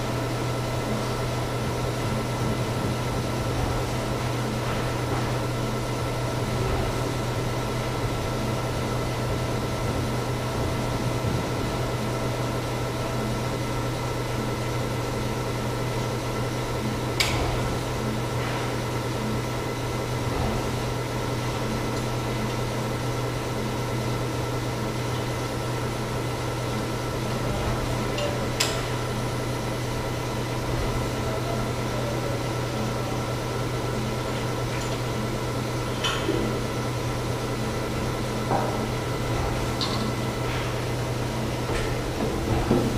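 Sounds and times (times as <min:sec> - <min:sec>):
machinery hum: 0:00.0 - 0:42.9.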